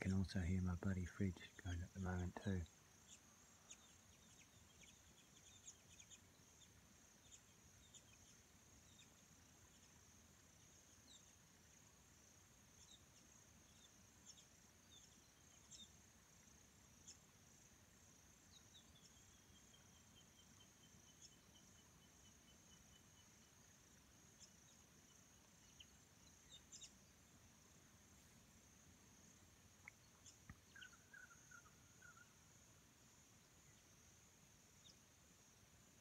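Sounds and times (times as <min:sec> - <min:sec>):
insects chirring: 0:00.0 - 0:36.0.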